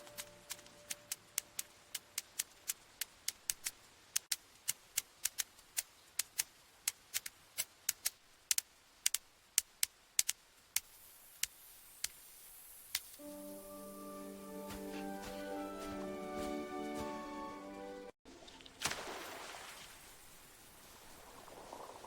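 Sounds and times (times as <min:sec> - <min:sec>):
faint hiss: 0:00.0 - 0:15.6, 0:18.8 - 0:22.0.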